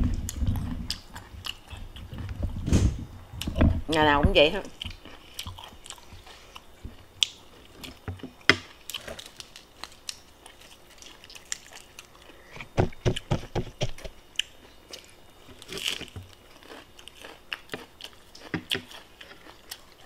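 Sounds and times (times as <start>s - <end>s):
person chewing: 0.0s - 2.6s, 4.7s - 12.5s, 14.0s - 20.0s.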